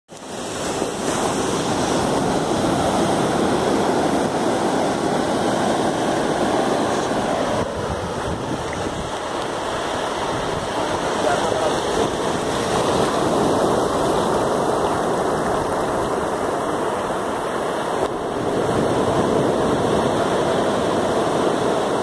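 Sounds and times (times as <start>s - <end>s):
surf breaking on beach: 0.1s - 22.0s.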